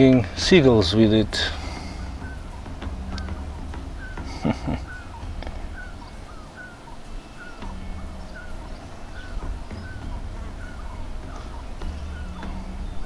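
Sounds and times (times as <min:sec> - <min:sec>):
gulls calling: 0:00.0 - 0:13.0
steady low rumble: 0:00.0 - 0:13.0.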